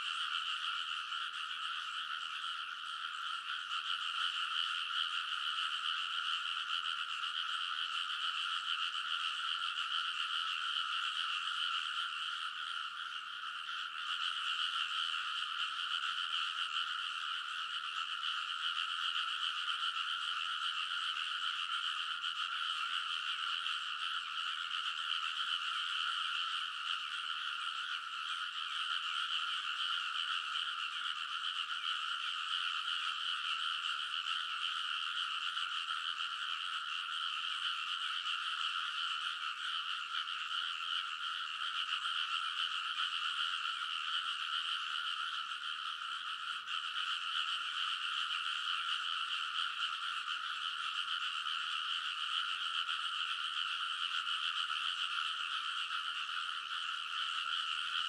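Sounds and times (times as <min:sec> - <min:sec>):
frogs chorus calling: 0:00.0 - 0:58.0.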